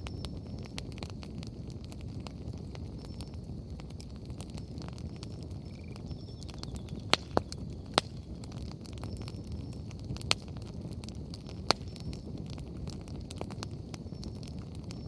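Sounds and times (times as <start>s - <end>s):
firewood popping: 0.0s - 15.0s
wood fire crackling: 0.0s - 15.0s.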